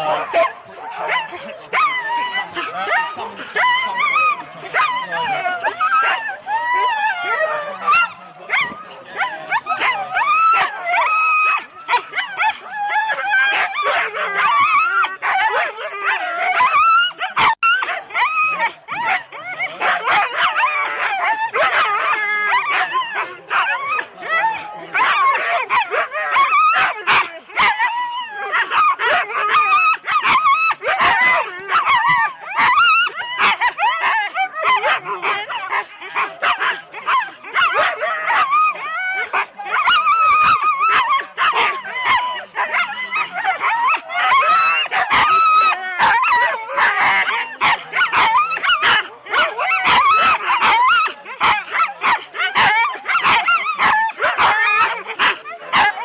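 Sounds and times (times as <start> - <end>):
sled dogs barking and yelping: 0.0 - 56.0.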